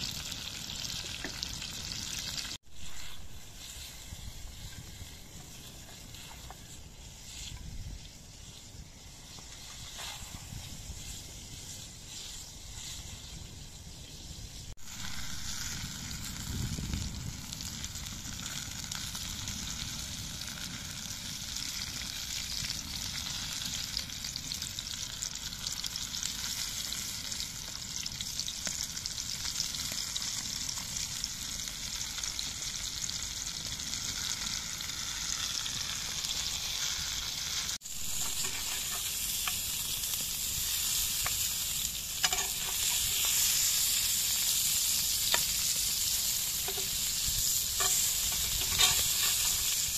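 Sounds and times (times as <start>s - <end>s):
vegetables sizzling in a pan: 0.0s - 49.9s.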